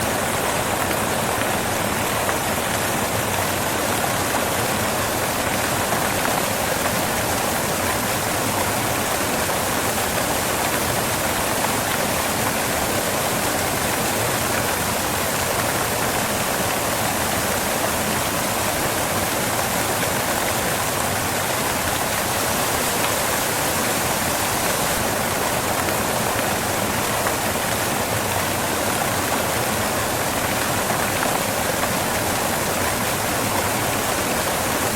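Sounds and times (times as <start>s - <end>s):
waterfall crashing onto rocks: 0.0s - 34.9s.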